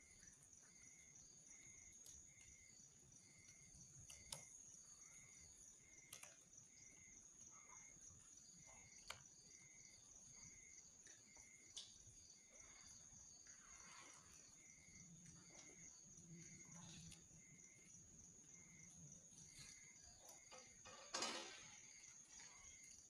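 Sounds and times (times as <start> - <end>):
campfire crackling: 0.0 - 13.8, 14.4 - 20.5
insect drone: 0.0 - 23.0.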